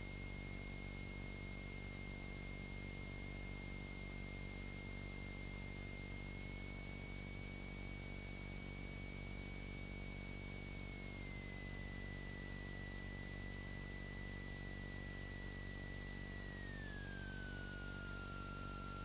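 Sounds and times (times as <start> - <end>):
thin high whine: 0.8 - 19.0.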